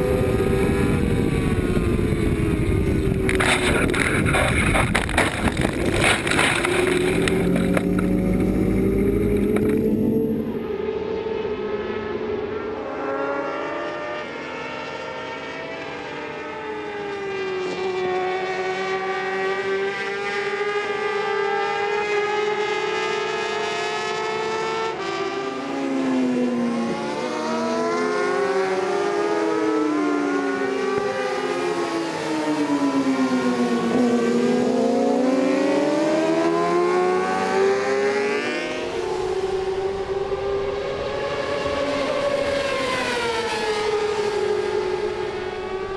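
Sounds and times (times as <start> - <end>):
racing motorcycle engines revving: 0.0 - 45.9.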